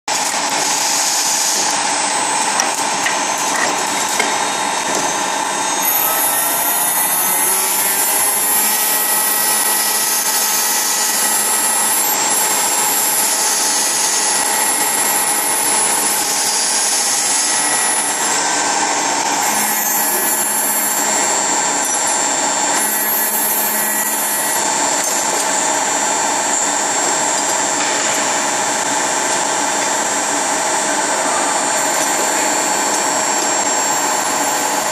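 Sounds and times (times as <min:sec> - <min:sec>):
key-cutting machine whining: 0:00.1 - 0:34.9.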